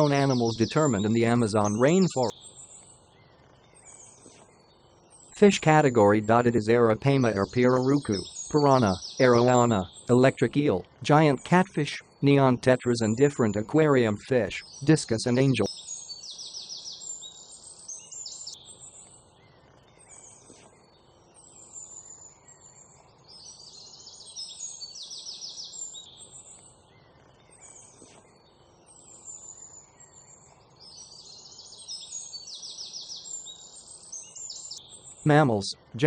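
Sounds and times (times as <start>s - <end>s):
birds chirping and trilling: 0.0s - 36.0s.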